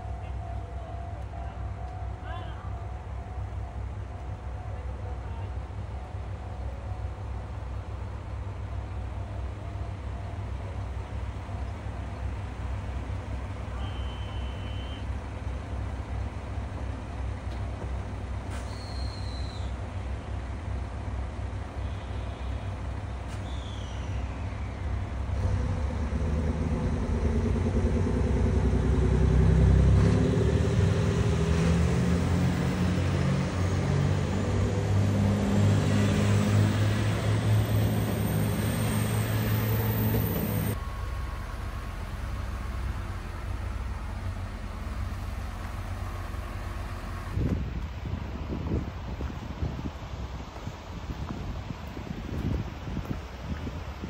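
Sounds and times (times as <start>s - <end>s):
diesel train engines revving: 0.0s - 54.0s
outdoor wind noise: 0.0s - 54.0s.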